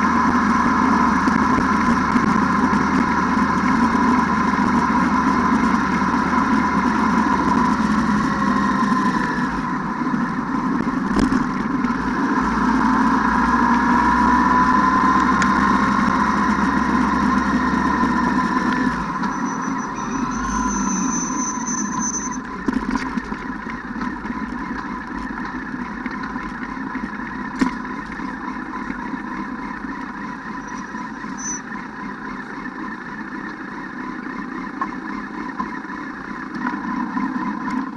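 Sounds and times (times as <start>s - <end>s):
atv engine running: 0.0s - 37.9s.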